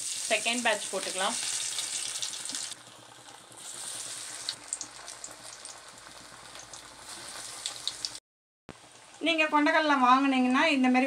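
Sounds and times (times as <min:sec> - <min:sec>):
fritters deep-frying in oil: 0:00.0 - 0:11.0.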